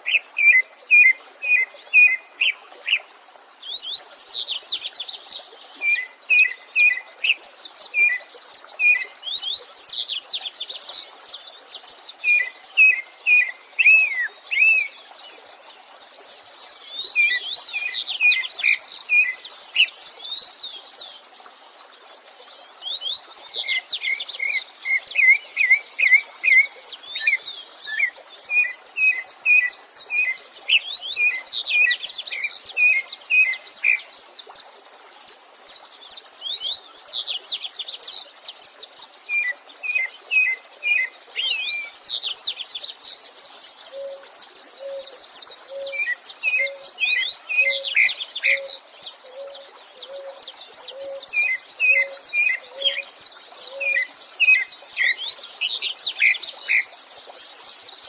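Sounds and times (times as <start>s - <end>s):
rushing stream: 0.0s - 58.0s
songbirds singing: 0.0s - 58.0s.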